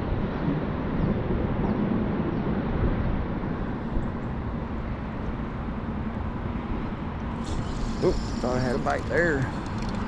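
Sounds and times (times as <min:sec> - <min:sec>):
wind blowing across microphone: 0:00.0 - 0:10.0.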